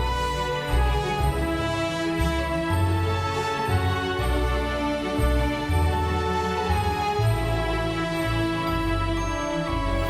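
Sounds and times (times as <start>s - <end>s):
instrumental christmas music: 0.0s - 10.0s.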